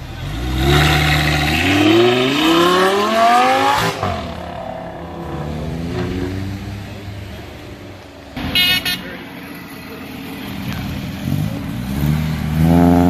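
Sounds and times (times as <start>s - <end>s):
car engine accelerating: 0.0s - 8.5s, 9.4s - 13.0s.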